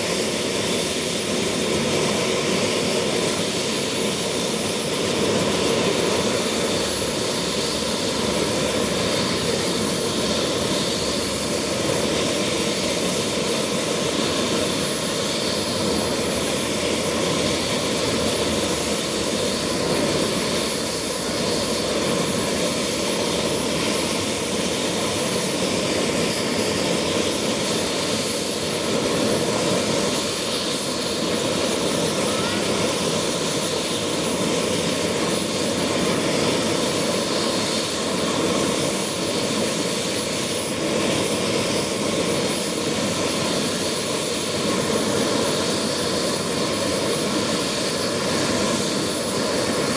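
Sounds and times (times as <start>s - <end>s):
helicopter turbine and rotor: 0.0s - 49.9s
thin high turbine whine: 0.0s - 49.9s.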